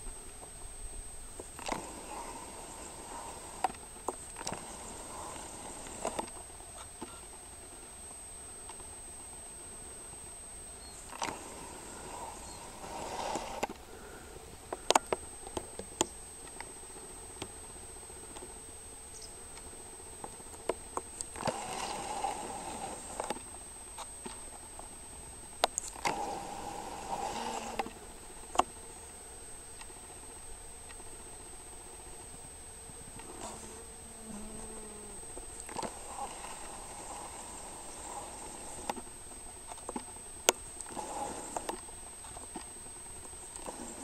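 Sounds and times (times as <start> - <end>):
faint high-pitched whine: 0.0 - 44.0.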